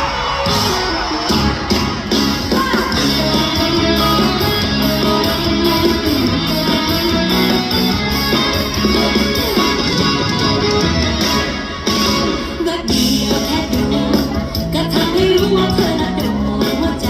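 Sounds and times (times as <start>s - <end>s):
bass: 0.0s - 17.0s
guitar: 0.0s - 17.0s
live band playing: 0.0s - 17.0s.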